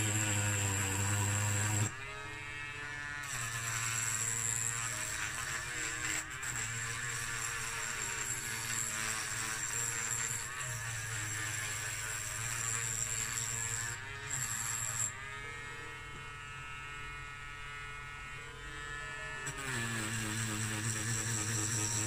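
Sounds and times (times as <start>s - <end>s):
rotary tool grinding metal: 0.0s - 22.0s.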